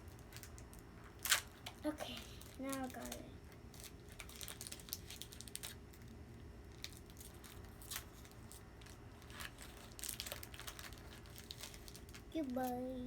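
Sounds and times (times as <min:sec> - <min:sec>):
foil wrapper crinkling: 0:00.0 - 0:13.0
low room hum: 0:00.0 - 0:13.0.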